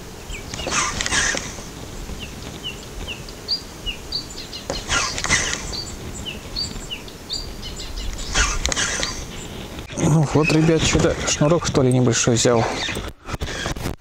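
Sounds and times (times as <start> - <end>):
songbird chirping: 0.0 - 12.3
rushing bursts of noise: 0.0 - 14.0.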